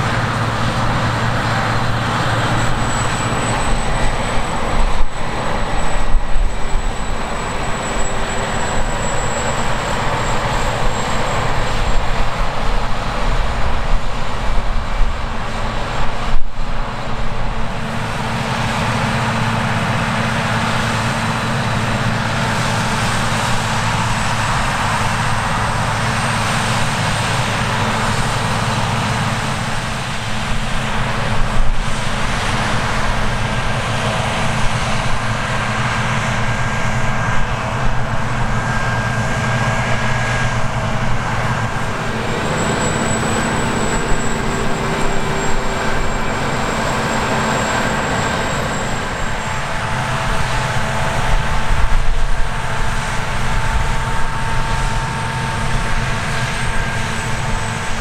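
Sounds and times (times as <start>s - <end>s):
high whining tones: 0.0s - 14.4s, 17.7s - 58.0s
combine harvester engine drone: 0.0s - 58.0s.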